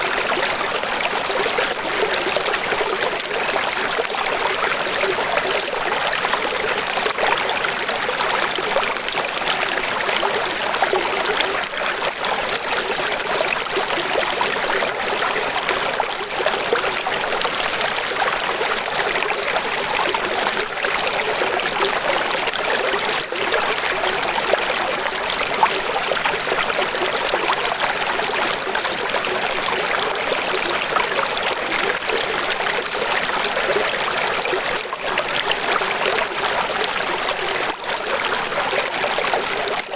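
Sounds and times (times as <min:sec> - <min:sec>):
running water rushing and trickling: 0:00.0 - 0:39.9.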